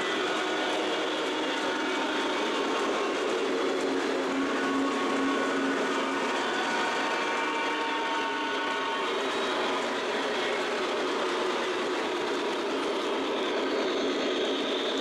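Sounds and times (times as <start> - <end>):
model train wheels rumbling on rails: 0.0 - 15.0.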